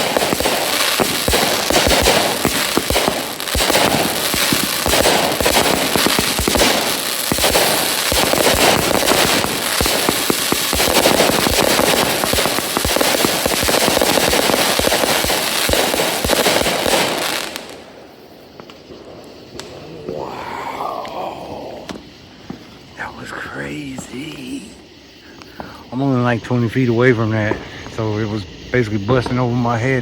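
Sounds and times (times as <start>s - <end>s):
firework crackling: 0.0s - 29.7s.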